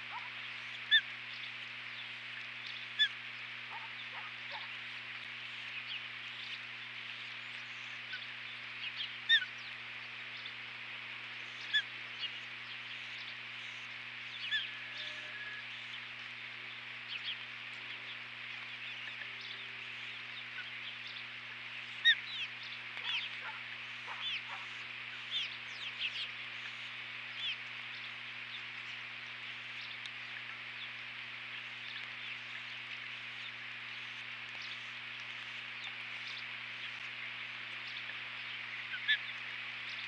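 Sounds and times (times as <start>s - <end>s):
low steady hum: 0.0s - 40.0s
steady hiss: 0.0s - 40.0s.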